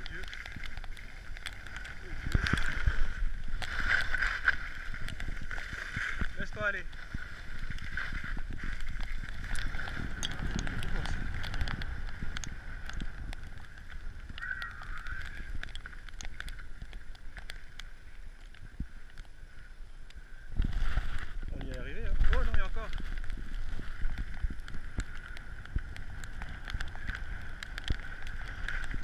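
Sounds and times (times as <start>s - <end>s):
skis scraping over snow: 0.0s - 16.0s, 20.6s - 29.0s
wind over microphone: 0.0s - 17.3s, 19.8s - 29.0s.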